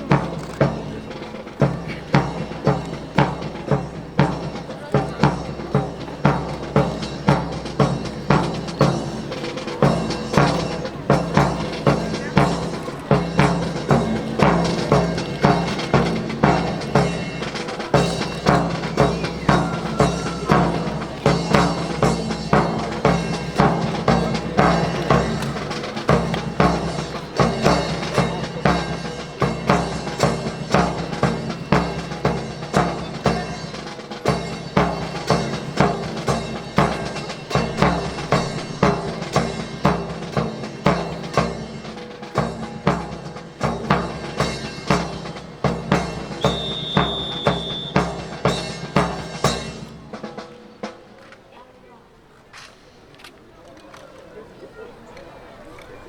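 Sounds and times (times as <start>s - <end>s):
drums beating: 0.0s - 51.6s.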